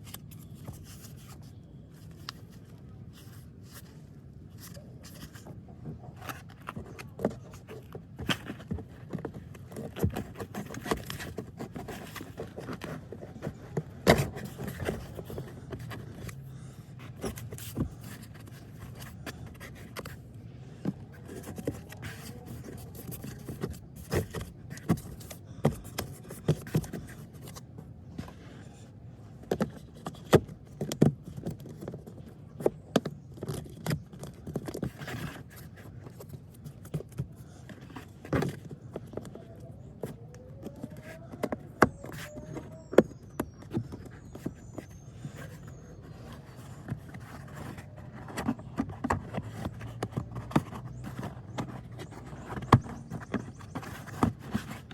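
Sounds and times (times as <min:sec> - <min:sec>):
plastic parts clicking and knocking: 0:04.6 - 0:20.2, 0:20.8 - 0:28.4, 0:29.4 - 0:54.9
plastic squeaky slides: 0:04.6 - 0:28.9, 0:29.6 - 0:54.9.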